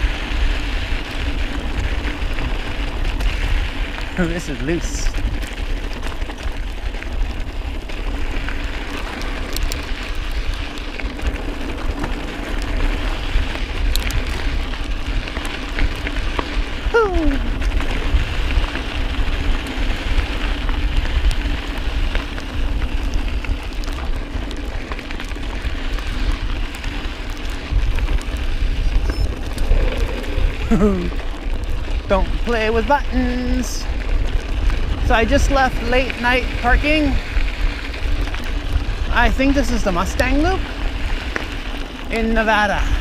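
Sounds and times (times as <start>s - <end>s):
bike tyres crunching on gravel: 0.0s - 43.0s
wind rumble on microphone: 0.0s - 43.0s.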